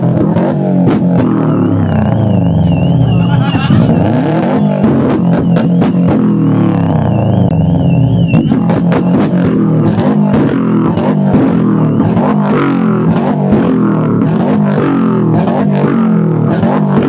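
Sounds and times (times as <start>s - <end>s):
exhaust pops and bangs: 0.0s - 1.9s, 4.4s - 17.0s
car engine at rev limiter: 0.0s - 17.0s.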